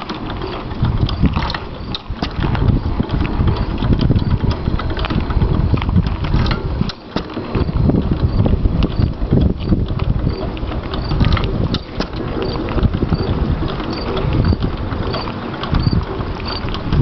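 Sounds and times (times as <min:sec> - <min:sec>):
clicks and clatter of moving parts: 0:00.0 - 0:17.0
engine chugging: 0:00.0 - 0:17.0.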